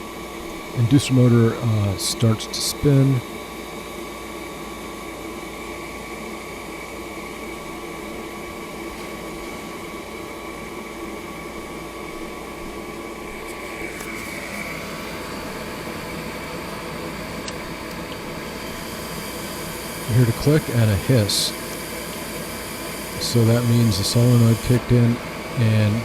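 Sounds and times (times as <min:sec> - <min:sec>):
furnace fan motor humming: 0:00.0 - 0:26.0.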